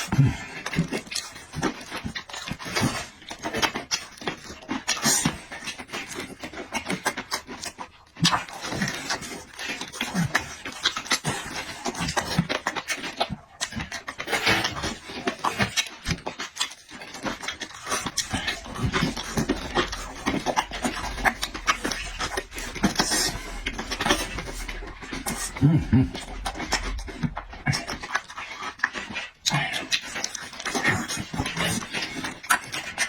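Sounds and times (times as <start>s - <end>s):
person chewing and slurping: 0.0s - 33.0s.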